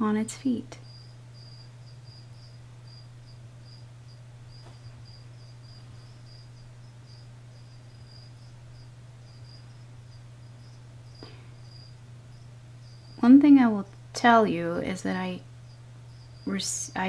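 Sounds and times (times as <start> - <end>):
steady low hum: 0.0 - 17.0
cricket chirping: 0.8 - 13.2, 15.4 - 17.0.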